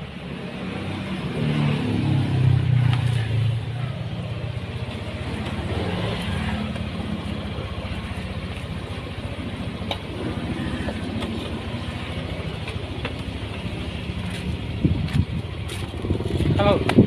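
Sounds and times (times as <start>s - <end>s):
scooter engine idling: 3.1s - 17.0s.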